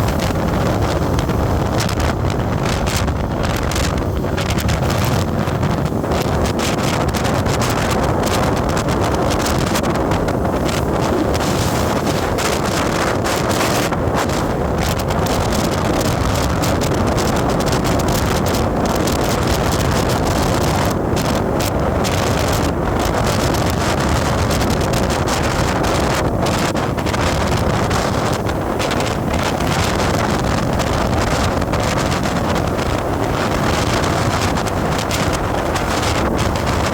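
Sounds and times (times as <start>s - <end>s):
moving vehicle rush: 0.0s - 36.9s
wind buffeting microphone: 0.0s - 36.9s.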